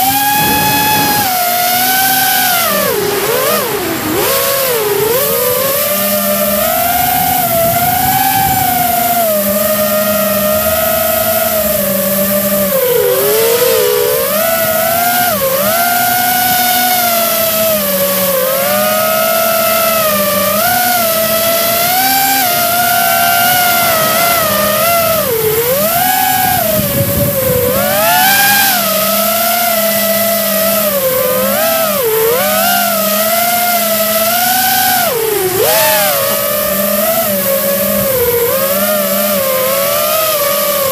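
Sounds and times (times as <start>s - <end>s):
lower hum: 0.0s - 40.9s
model aircraft motor whining: 0.0s - 40.9s
wind hiss: 0.0s - 40.9s.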